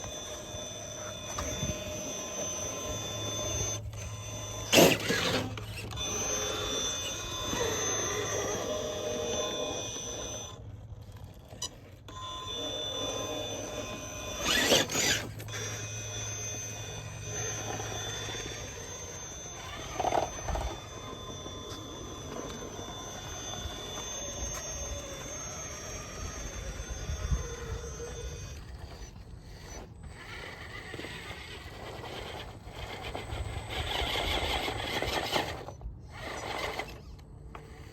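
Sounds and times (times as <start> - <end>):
toy car motor whining: 0.0 - 37.9.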